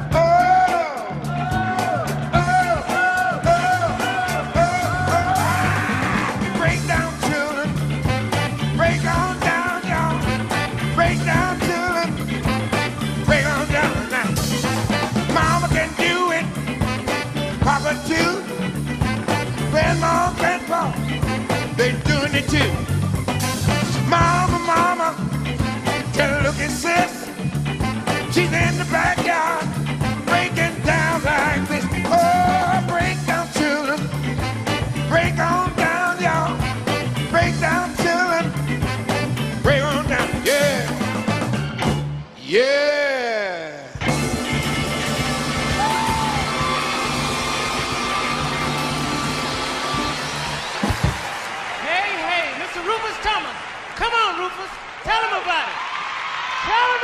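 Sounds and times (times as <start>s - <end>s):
bass line: 0.0s - 51.2s
funk band playing: 0.0s - 55.4s
drum beat: 0.1s - 41.5s, 43.9s - 53.2s.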